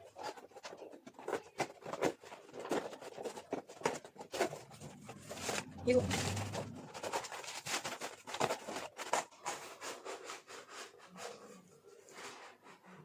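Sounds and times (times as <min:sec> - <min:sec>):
packaging rustling and tearing: 0:00.0 - 0:11.5.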